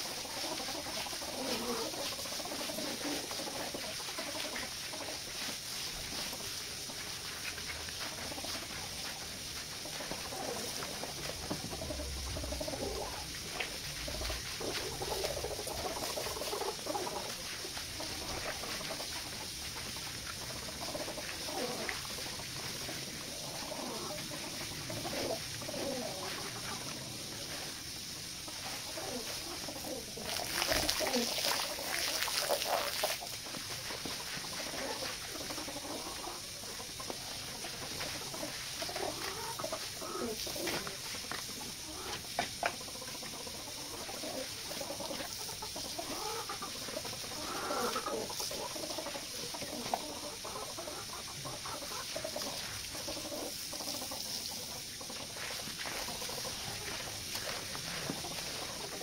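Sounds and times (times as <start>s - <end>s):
hand brush scrubbing wet rug: 0.0s - 59.0s
watery hiss: 0.0s - 59.0s.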